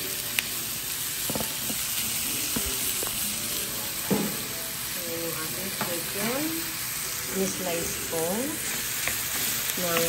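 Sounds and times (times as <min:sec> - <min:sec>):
chicken and onions sizzling in pan: 0:00.0 - 0:10.0.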